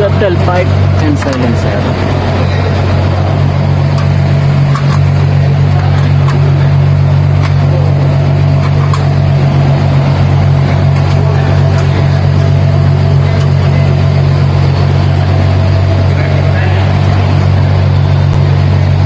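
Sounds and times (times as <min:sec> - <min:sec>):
car engine deep drone: 0:00.0 - 0:19.0.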